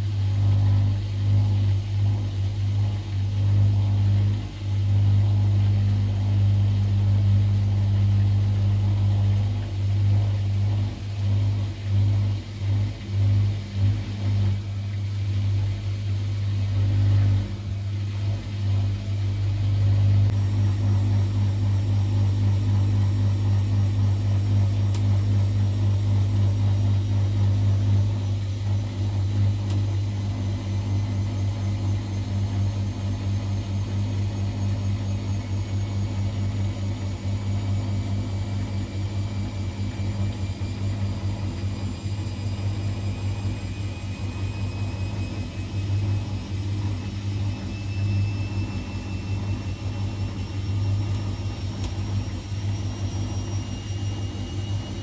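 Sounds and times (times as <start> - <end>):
faint motor whine: 0.0 - 55.0
washing machine spinning: 0.0 - 55.0.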